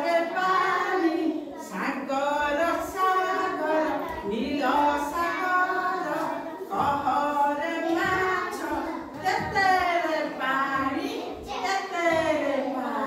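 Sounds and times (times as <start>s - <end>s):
woman and children singing: 0.0s - 13.0s.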